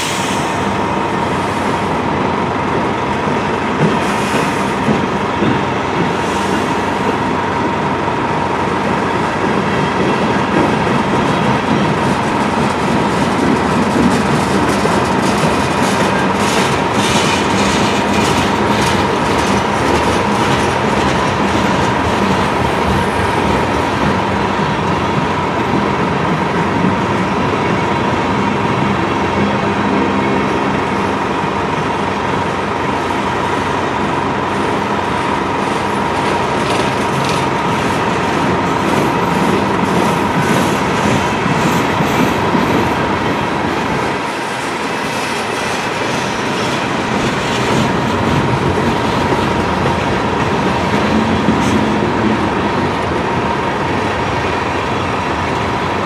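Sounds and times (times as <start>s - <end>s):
train wheels rumbling on rails: 0.0s - 56.0s
clickety-clack over rail joints: 2.7s - 56.0s.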